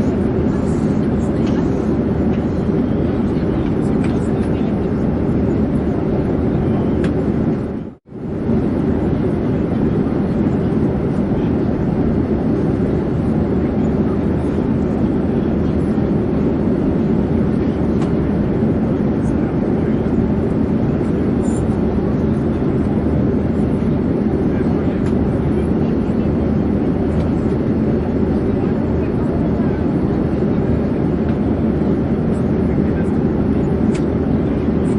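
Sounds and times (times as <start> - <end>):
airplane engine and airflow rush: 0.0 - 34.9.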